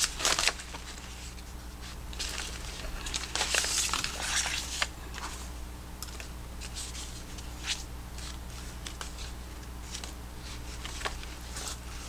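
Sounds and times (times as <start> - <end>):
papers rustling: 0.0 - 5.5, 6.1 - 12.0
low steady hum: 0.0 - 12.0.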